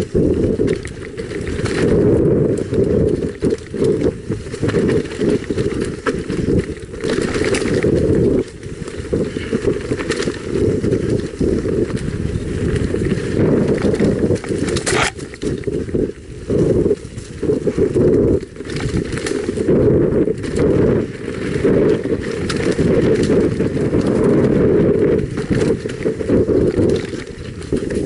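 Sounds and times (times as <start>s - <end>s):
bike tyres rumbling on dirt: 0.0s - 28.0s.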